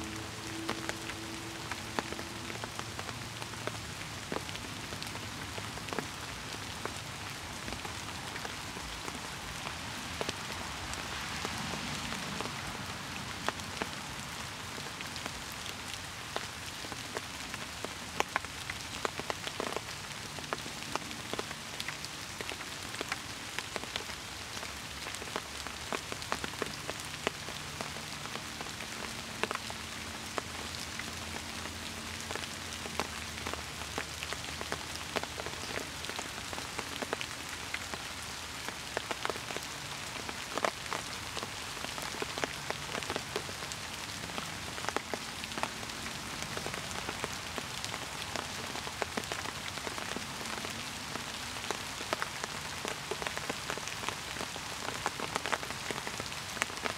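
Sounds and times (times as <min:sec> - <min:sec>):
raindrops ticking: 0:00.0 - 0:56.9
steady rain hiss: 0:00.0 - 0:56.9.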